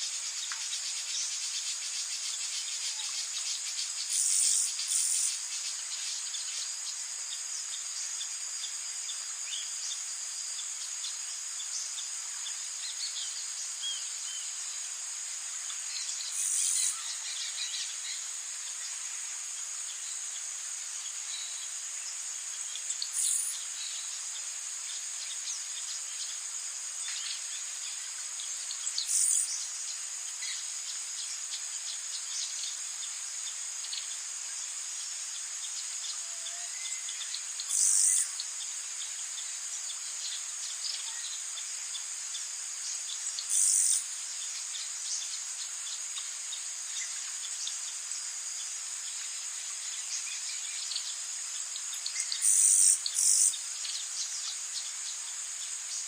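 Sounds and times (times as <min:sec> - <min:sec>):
insects buzzing and chirring: 0:00.0 - 0:56.0.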